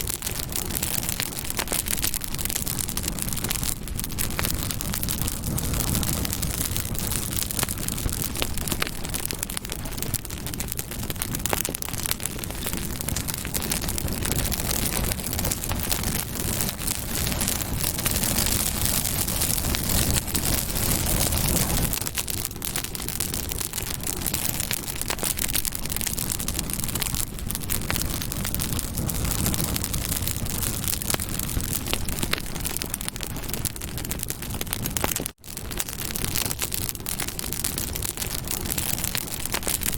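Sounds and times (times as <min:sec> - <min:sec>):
burning wood crackling and popping: 0:00.0 - 0:39.9
campfire flames rushing: 0:00.0 - 0:39.9.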